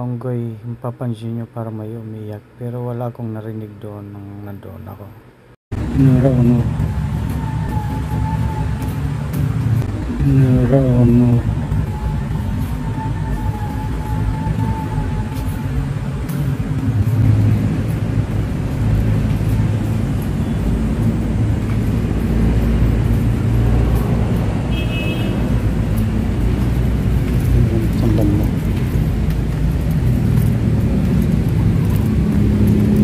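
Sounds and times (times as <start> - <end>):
low outdoor rumble: 3.3 - 33.0.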